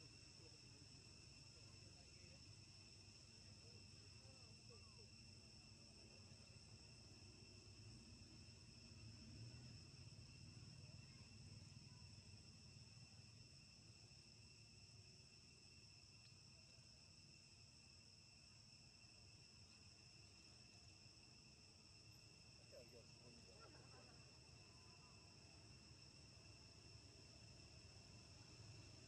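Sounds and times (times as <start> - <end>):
insect chorus: 0.0 - 29.0
outdoor background hiss: 0.0 - 29.0.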